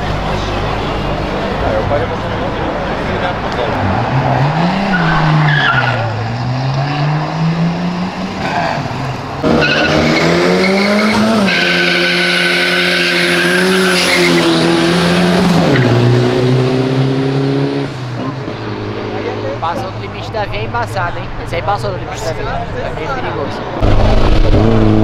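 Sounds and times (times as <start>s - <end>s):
car engine revving: 0.0s - 19.7s, 23.8s - 25.0s.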